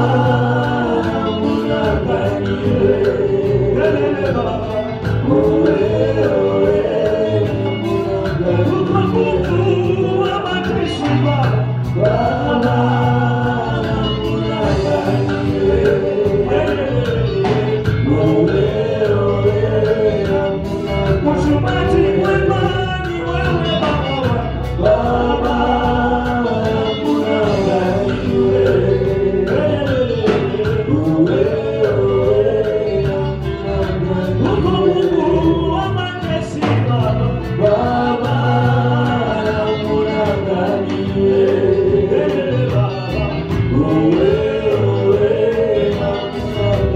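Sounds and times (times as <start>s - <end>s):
low bass notes: 0.0s - 46.9s
percussion beat: 0.0s - 46.9s
voices singing together: 0.0s - 46.9s.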